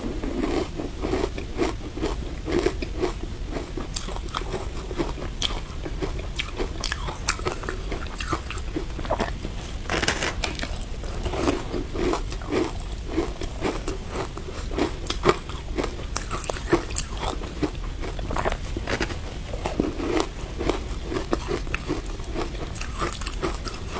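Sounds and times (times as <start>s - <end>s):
crunching and chewing ice: 0.0s - 23.9s.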